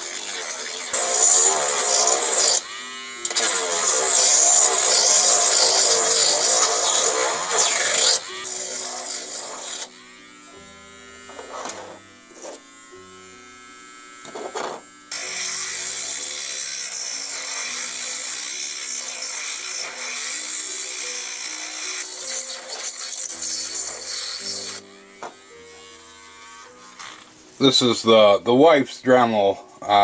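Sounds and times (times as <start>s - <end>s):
rotary tool grinding: 0.0s - 27.9s
background music: 0.0s - 30.0s.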